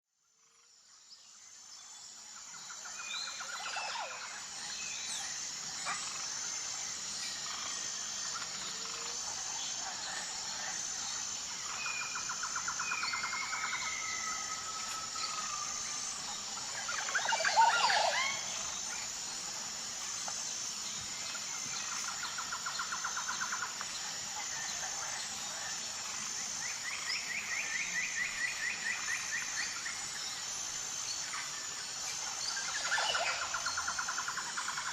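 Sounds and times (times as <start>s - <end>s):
high-pitched insect drone: 0.2s - 34.9s
birds calling in rapid trills: 2.6s - 34.9s.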